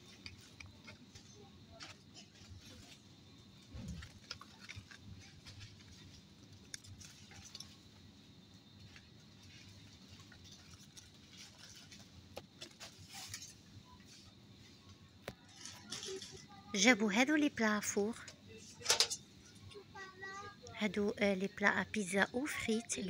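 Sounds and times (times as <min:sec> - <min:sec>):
quiet background hum: 0:00.0 - 0:23.0.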